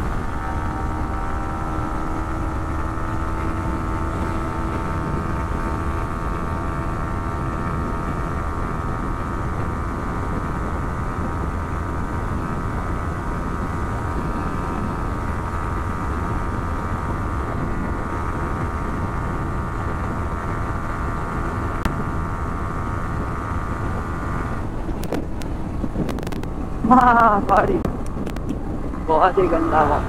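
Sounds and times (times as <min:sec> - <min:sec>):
high whine: 0:00.0 - 0:30.0
motorcycle engine cruising: 0:00.0 - 0:30.0
wind rush on microphone: 0:00.0 - 0:30.0.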